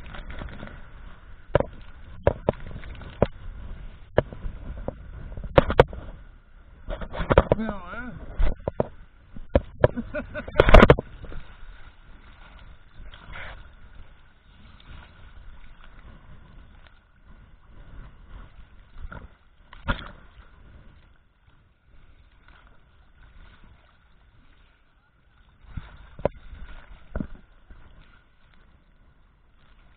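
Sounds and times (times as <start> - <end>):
sea water sloshing and slapping: 0.0 - 29.9.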